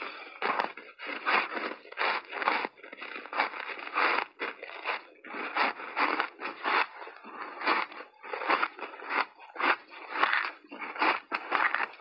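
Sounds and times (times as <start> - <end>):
chewing crunchy ice: 0.0 - 12.0.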